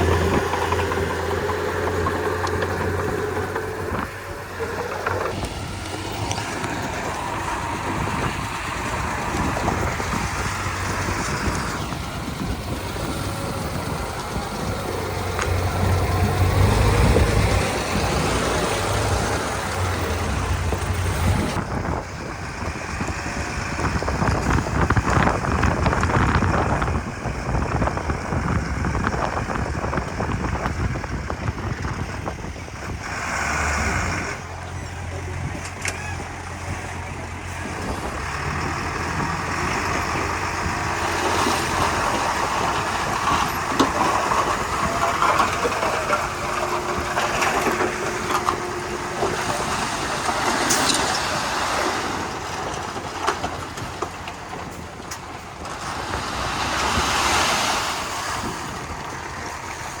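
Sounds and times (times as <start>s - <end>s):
bulldozer diesel engine under load: 0.0s - 60.0s
bulldozer pushing soil: 0.0s - 60.0s.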